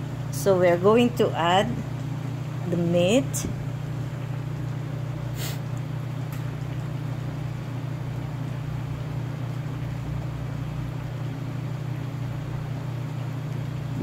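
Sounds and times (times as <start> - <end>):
steady low hum: 0.0 - 14.0
water boiling in a pot: 0.0 - 14.0.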